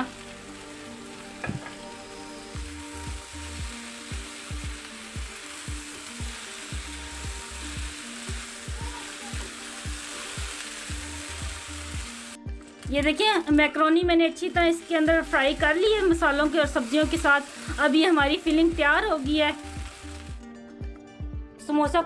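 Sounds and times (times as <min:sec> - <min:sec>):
food sizzling in frying pan: 0:00.0 - 0:20.8.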